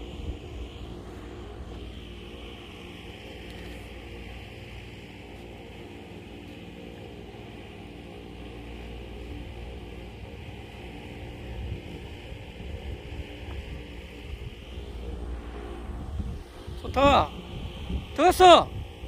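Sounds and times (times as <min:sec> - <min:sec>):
constant hiss: 0:00.0 - 0:19.0
motor humming: 0:00.0 - 0:19.0.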